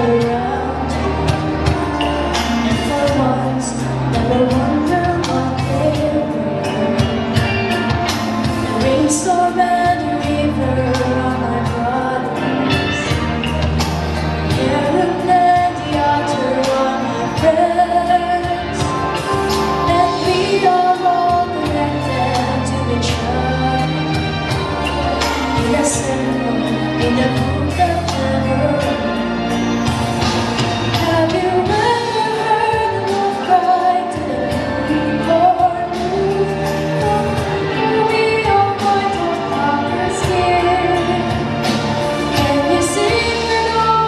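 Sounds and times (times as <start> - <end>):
woman singing into microphone: 0.0 - 30.0, 30.6 - 44.0
backing music with bass and beat: 0.0 - 44.0.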